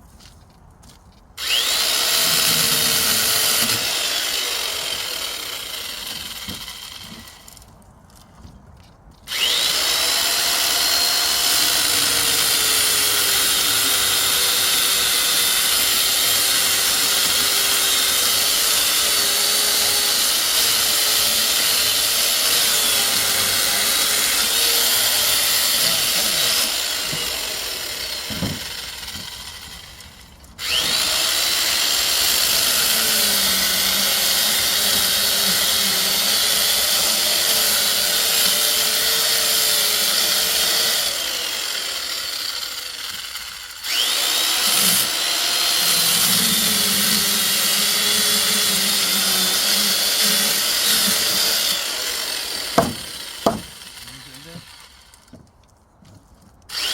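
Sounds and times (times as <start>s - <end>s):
power tool motor running: 1.4s - 7.6s, 9.3s - 55.4s.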